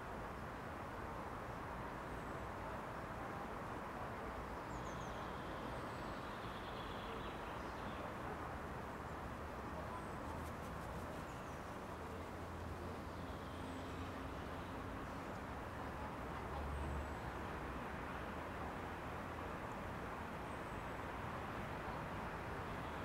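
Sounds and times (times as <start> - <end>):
distant road traffic hum: 0.0 - 23.0.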